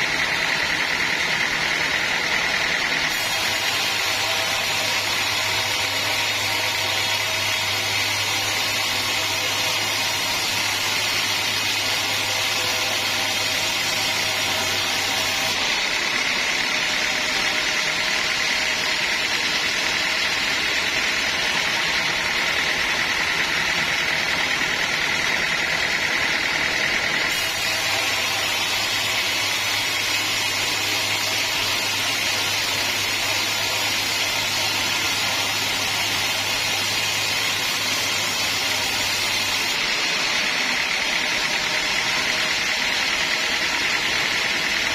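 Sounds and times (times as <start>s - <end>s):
high saw whine: 0.0s - 44.9s
sawmill machinery humming: 0.0s - 44.9s.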